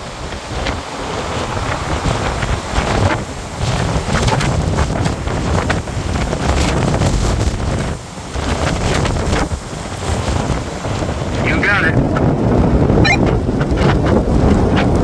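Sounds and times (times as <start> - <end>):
blizzard wind buffeting microphone: 0.0 - 15.0.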